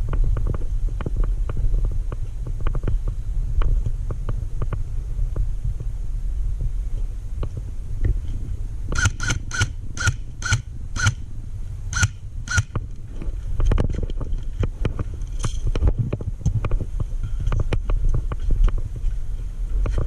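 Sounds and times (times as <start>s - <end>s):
low wind rumble: 0.0s - 20.0s.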